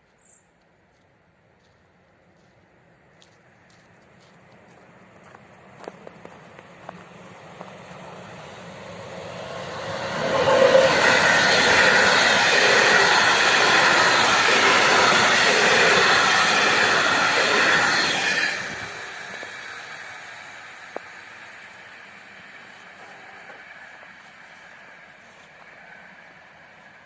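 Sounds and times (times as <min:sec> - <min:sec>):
train wheels on rails: 0:00.9 - 0:27.0.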